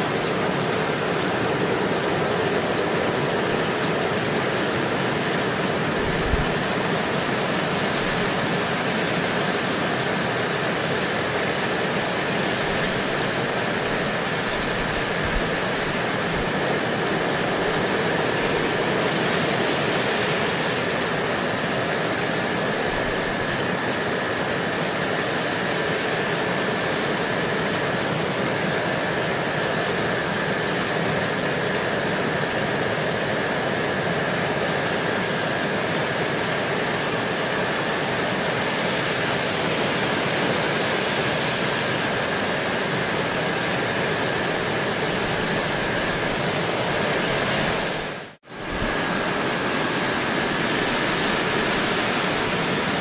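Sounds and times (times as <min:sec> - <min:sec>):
steady rainfall: 0:00.0 - 0:53.0.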